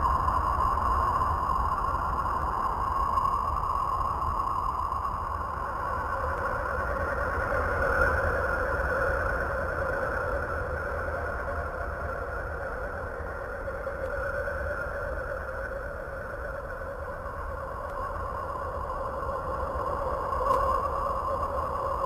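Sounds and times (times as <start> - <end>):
eerie hissing drone: 0.0 - 22.0.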